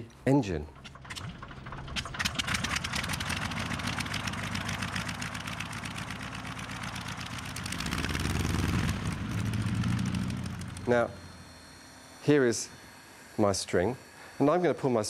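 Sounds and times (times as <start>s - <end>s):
aircraft engine running: 0.0s - 15.0s.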